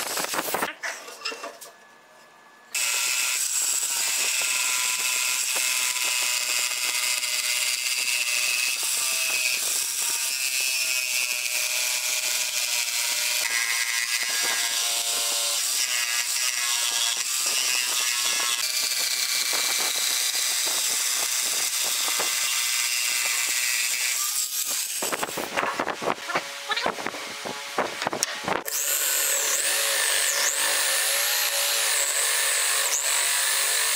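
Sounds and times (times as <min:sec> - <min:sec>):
electric jigsaw cutting wood: 0:02.7 - 0:33.9.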